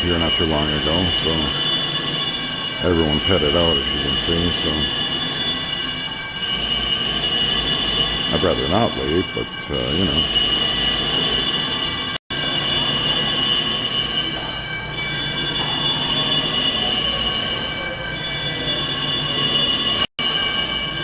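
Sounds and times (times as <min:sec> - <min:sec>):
fire alarm bell ringing: 0:00.0 - 0:21.0.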